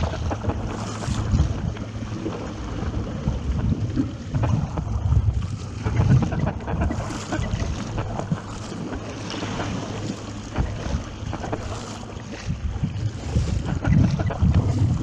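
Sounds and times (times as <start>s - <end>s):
water splashing and rushing: 0.0s - 15.0s
wind buffeting microphone: 0.0s - 15.0s.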